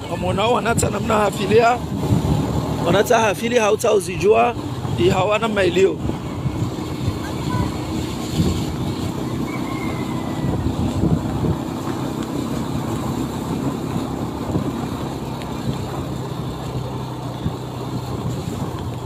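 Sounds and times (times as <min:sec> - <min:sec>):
low engine hum: 0:00.0 - 0:19.0
road and wind noise: 0:00.0 - 0:19.0.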